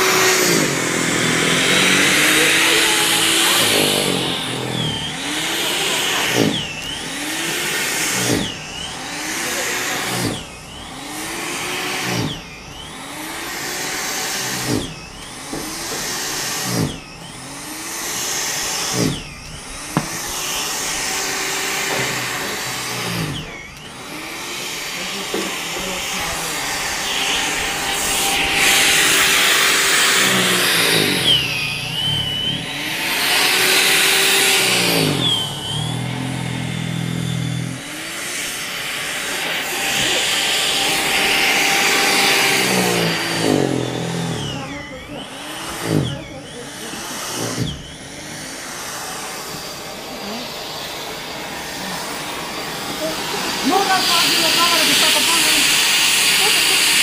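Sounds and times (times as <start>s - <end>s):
snow thrower motor running: 0.0s - 57.0s.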